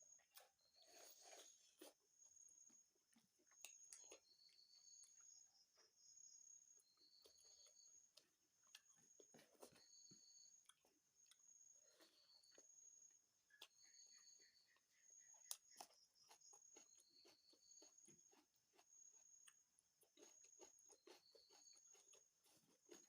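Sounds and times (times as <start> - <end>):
chewing food: 0.0 - 23.0.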